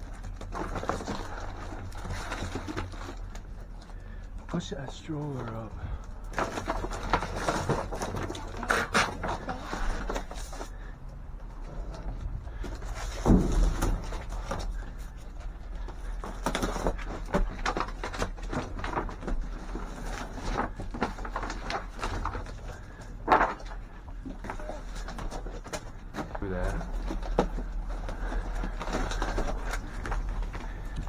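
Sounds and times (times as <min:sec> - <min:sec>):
objects knocking and bumping: 0:05.4 - 0:31.0.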